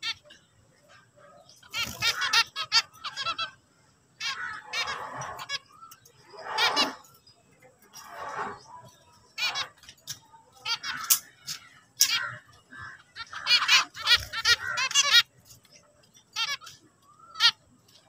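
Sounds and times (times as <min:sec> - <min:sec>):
finches singing and calling: 0:00.0 - 0:18.0.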